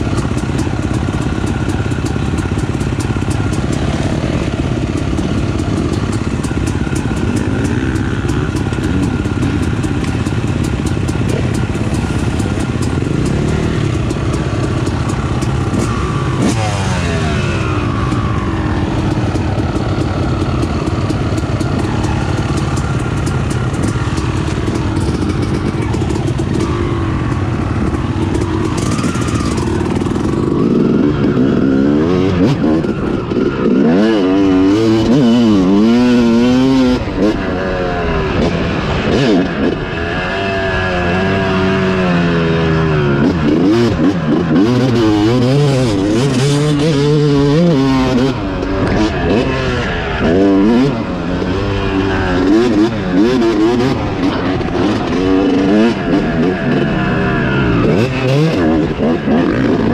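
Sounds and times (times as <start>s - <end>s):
dirt bike engine running close: 0.0s - 59.9s
other dirt bike engines: 0.0s - 59.9s.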